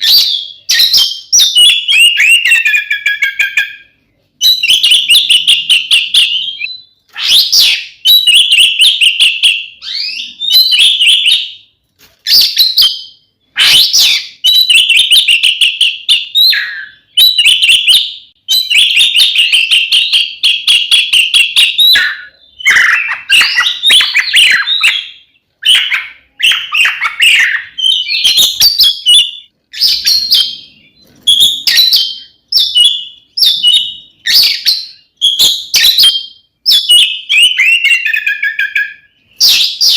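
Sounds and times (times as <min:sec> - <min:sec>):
magpie-robin singing trills and whistles: 0:00.0 - 0:39.9.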